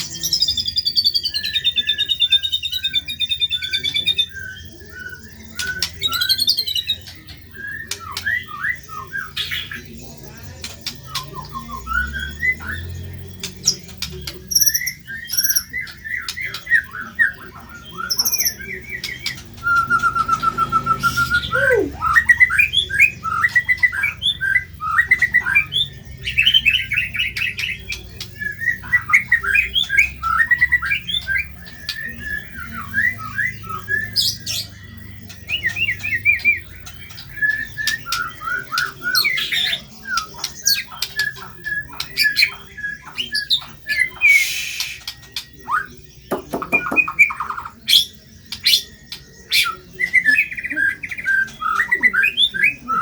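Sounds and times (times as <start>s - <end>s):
songbird whistling and trilling: 0.0s - 53.0s.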